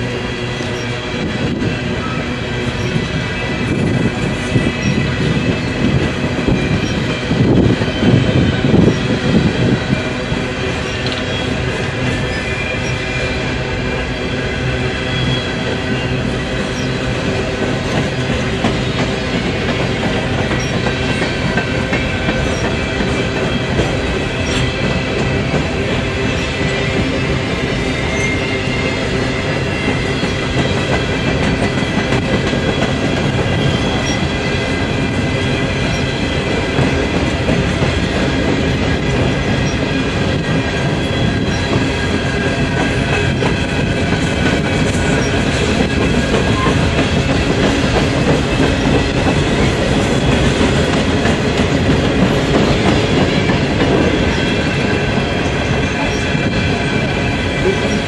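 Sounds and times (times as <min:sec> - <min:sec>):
freight train wheels clacking: 0:00.0 - 0:58.0
high ringing from train wheels: 0:00.0 - 0:58.0.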